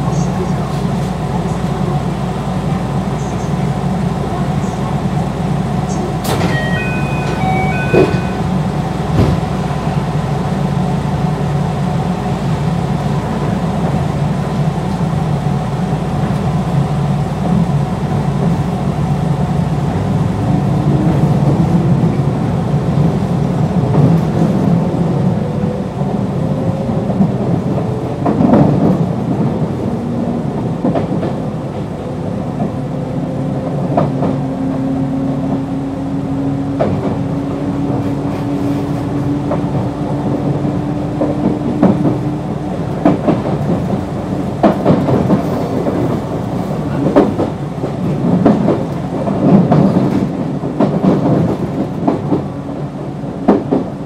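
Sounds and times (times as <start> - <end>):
train low hum: 0.0 - 54.0.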